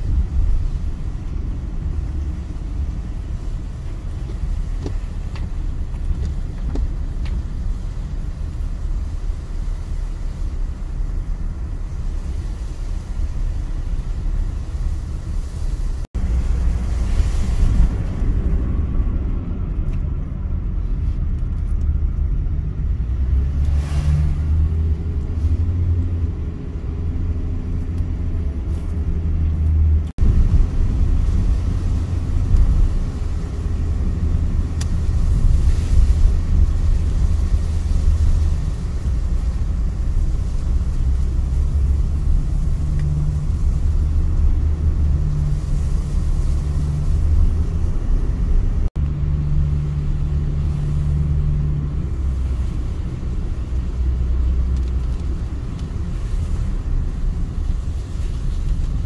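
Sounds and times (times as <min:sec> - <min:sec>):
car engine rumble: 0:00.0 - 0:59.0
tyres on wet road: 0:00.0 - 0:59.0.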